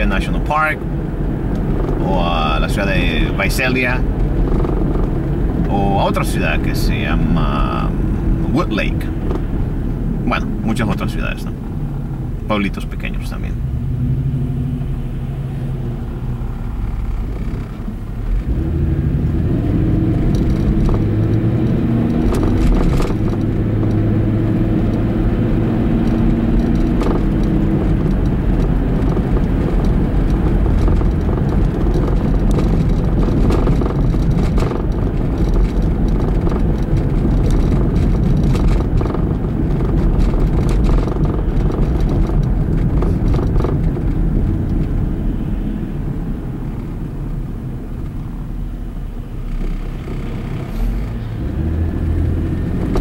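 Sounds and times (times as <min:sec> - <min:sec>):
car engine accelerating: 0:00.0 - 0:53.0
tyre and road rumble: 0:00.0 - 0:53.0.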